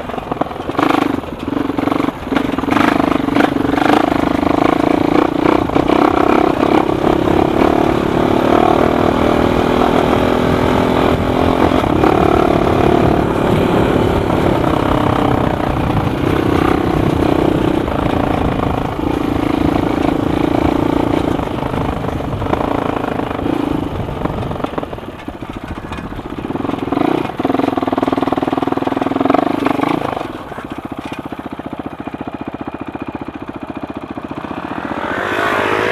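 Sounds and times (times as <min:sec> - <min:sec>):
quad bike engine revving: 0:00.0 - 0:35.9.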